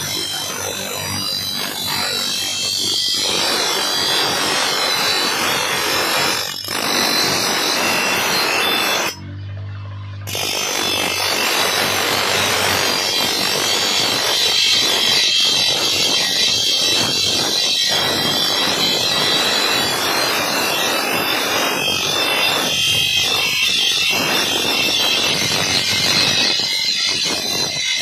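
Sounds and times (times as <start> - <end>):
grinder grinding steel blade: 0.0 - 28.0.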